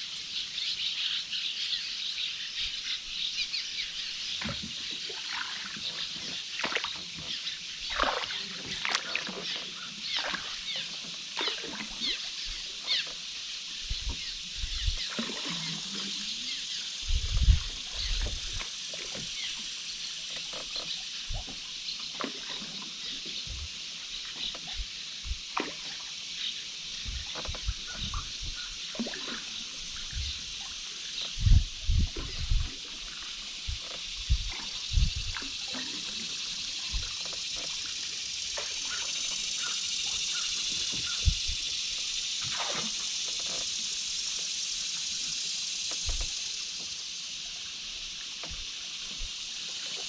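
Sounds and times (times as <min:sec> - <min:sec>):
birds: 0:00.0 - 0:50.0
insects: 0:00.0 - 0:50.0
water splashing from paddling: 0:04.2 - 0:50.0.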